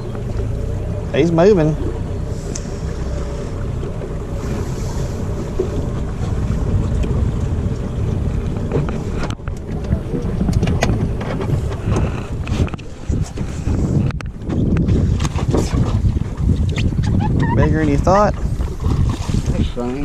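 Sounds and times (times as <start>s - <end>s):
small boat motor running: 0.0s - 20.0s
wind buffeting microphone: 0.0s - 20.0s.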